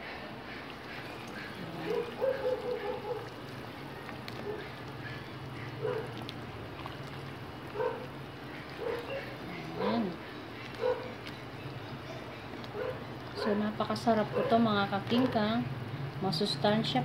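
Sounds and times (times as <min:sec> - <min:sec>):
ladle stirring soup in a pot: 0:00.4 - 0:15.4.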